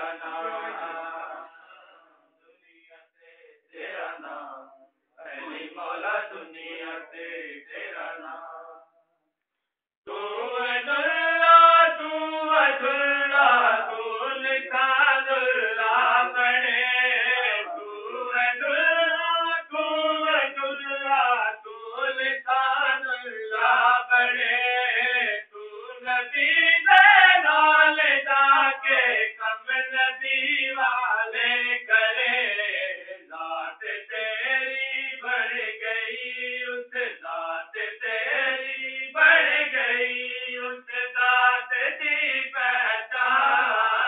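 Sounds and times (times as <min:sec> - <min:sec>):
man chanting: 0:00.0 - 0:02.0, 0:02.6 - 0:08.8, 0:10.1 - 0:44.0.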